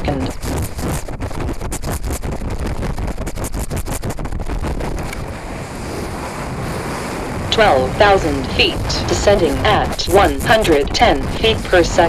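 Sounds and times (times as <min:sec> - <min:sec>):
wind rushing over camera: 0:00.0 - 0:12.0.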